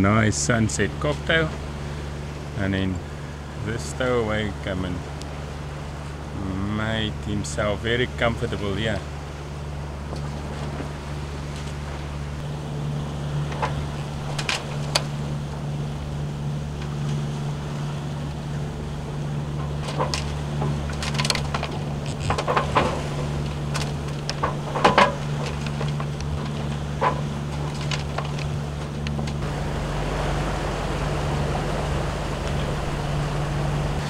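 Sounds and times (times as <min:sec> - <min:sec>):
boat engine drone: 0:00.0 - 0:34.0
wind hiss: 0:00.0 - 0:34.0.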